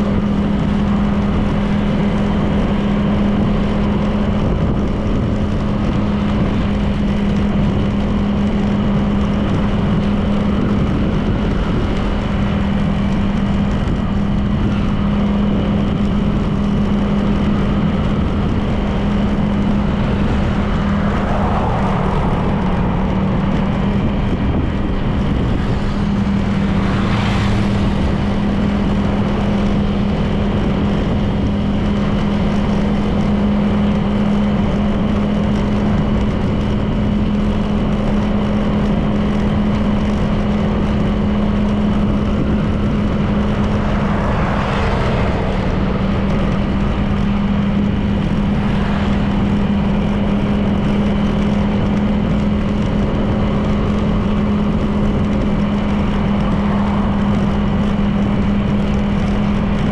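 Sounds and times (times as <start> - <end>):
scooter engine cruising: 0.0 - 59.9
wind and tyre noise: 0.0 - 59.9.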